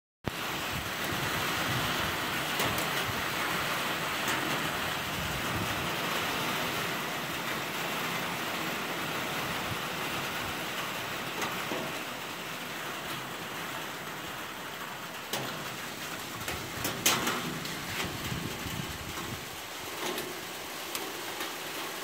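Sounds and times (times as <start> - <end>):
pouring rain: 0.2 - 22.0.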